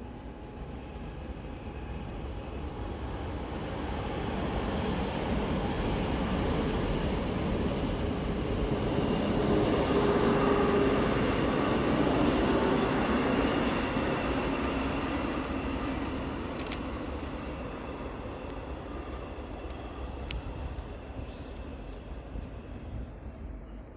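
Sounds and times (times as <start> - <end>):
train passing by: 0.0 - 23.9.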